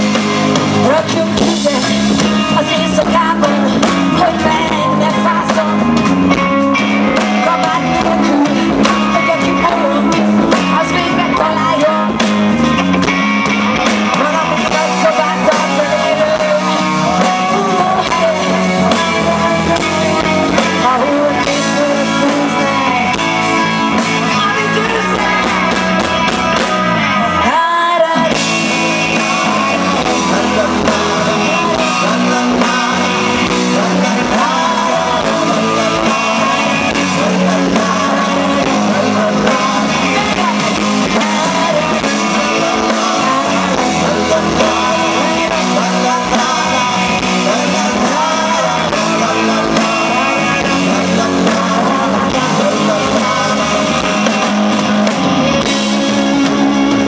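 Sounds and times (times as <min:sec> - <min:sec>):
live rock band playing: 0:00.0 - 0:57.0
woman singing lead: 0:00.0 - 0:57.0.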